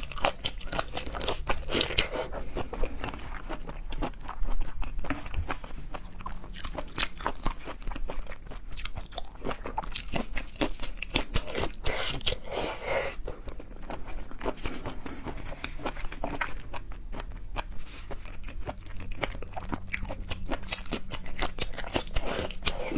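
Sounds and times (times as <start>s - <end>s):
crunching bites and wet chewing: 0.0s - 22.9s.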